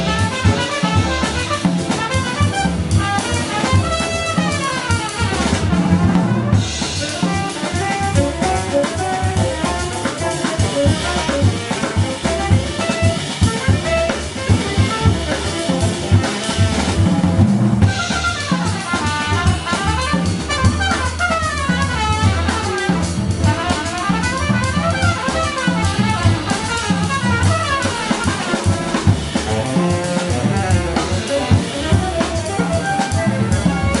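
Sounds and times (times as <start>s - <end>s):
busy drumming with cymbal wash: 0.0s - 34.0s
jazz band playing: 0.0s - 34.0s.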